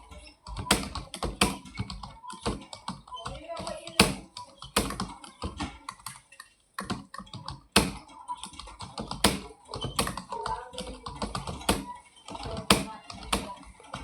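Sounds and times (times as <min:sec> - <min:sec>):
fast keyboard typing: 0:00.0 - 0:14.0.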